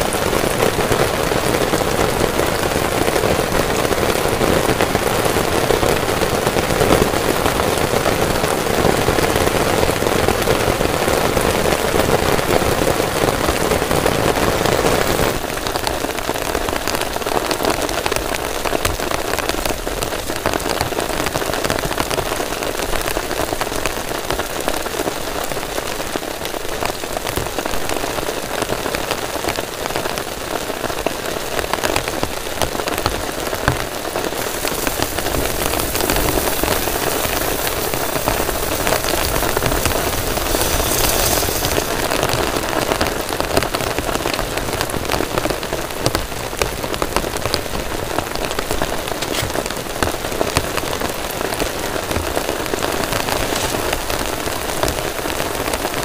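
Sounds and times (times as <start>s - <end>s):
heavy rain on a tent: 0.0s - 56.0s.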